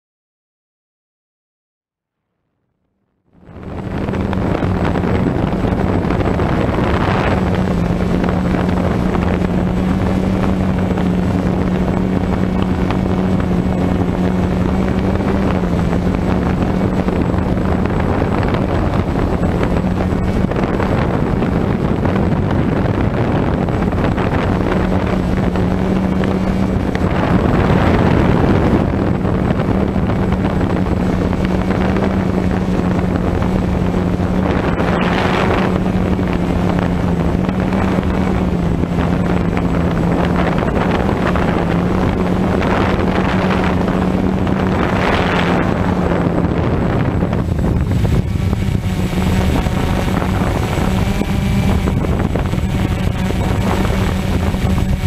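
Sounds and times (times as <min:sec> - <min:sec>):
wind on microphone: 0:03.2 - 0:55.0
drone motors buzzing: 0:03.4 - 0:55.0.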